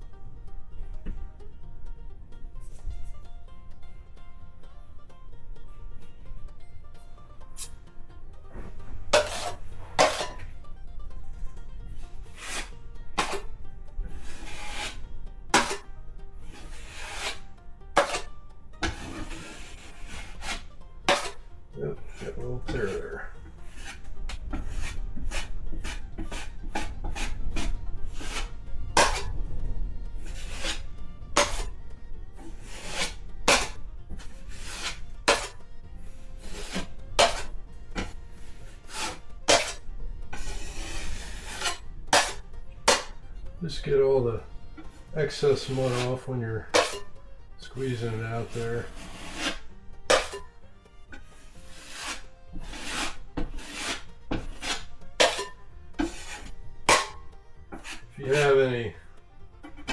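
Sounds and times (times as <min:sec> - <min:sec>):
drywall knife scraping: 0:07.6 - 0:07.8, 0:08.5 - 0:10.5, 0:12.1 - 0:29.5, 0:30.2 - 0:59.9.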